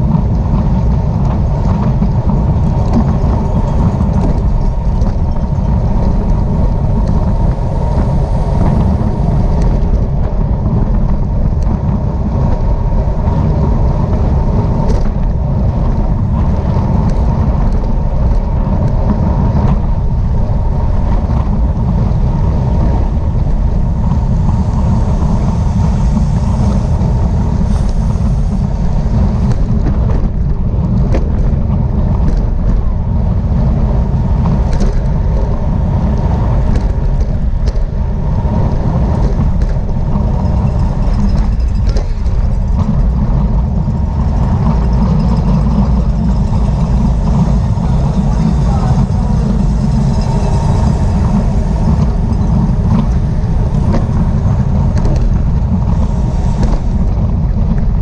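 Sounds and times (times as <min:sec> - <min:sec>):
wind rush on microphone: 0:00.0 - 0:58.0.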